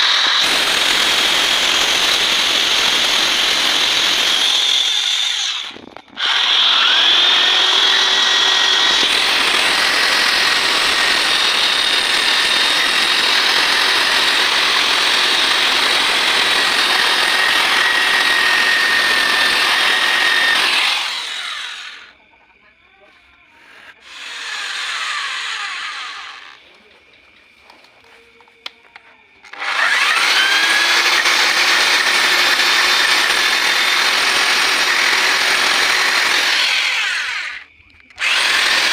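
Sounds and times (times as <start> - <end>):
electric grinder whining: 0.0 - 22.2, 23.6 - 26.9, 29.4 - 38.9.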